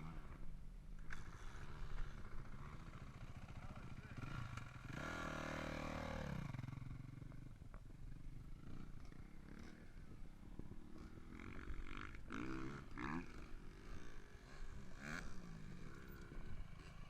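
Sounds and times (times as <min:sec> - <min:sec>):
dirt bike engine winding down: 0:00.0 - 0:17.0
dirt bike engine revving: 0:01.1 - 0:07.3, 0:08.4 - 0:17.0.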